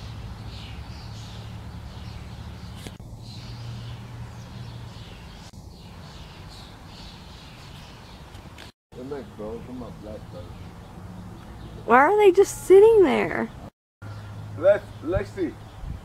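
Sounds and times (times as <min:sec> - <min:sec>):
birds chirping faintly: 0:00.0 - 0:16.0.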